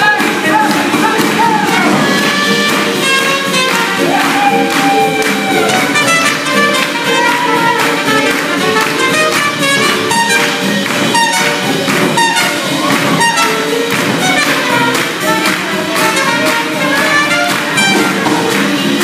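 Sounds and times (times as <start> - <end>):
swing jazz band playing: 0.0 - 19.0.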